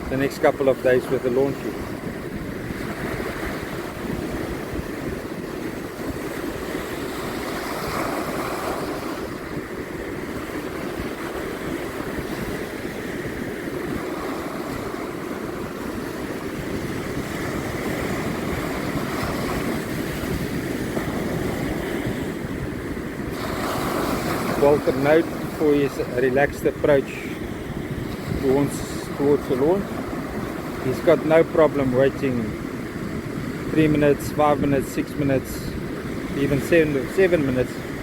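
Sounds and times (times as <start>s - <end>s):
ocean surf breaking: 0.0s - 38.0s
wind on microphone: 0.0s - 38.0s.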